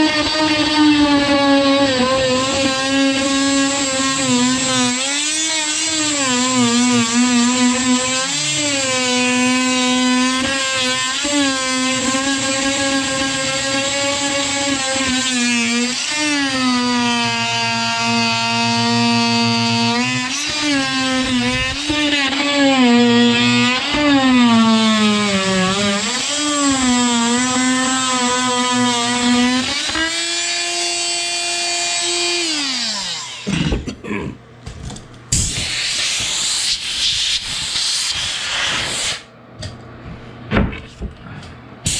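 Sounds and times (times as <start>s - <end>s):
electric drill motor whining: 0.0s - 33.9s.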